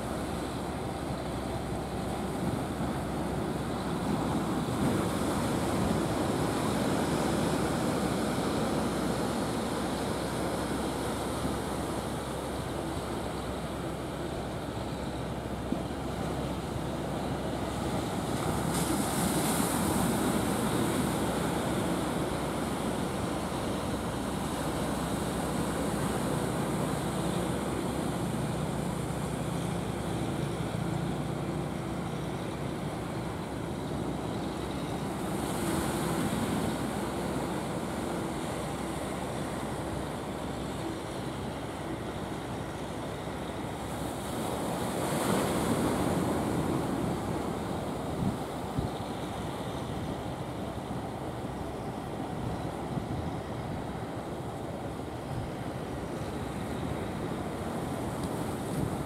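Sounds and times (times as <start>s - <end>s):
surf washing: 0.0s - 59.0s.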